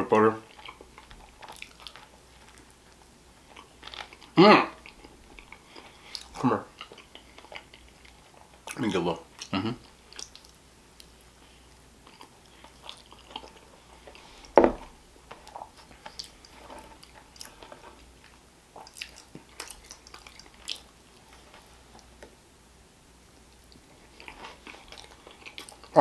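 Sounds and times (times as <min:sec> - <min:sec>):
person chewing food: 0:00.4 - 0:22.4, 0:23.5 - 0:26.0.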